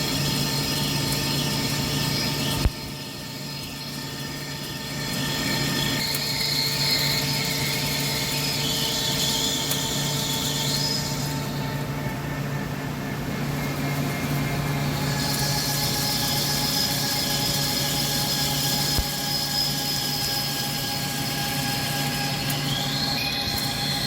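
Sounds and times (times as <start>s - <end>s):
lathe hiss: 0.0s - 11.9s, 13.3s - 24.0s
lathe hum and whine: 0.0s - 24.0s.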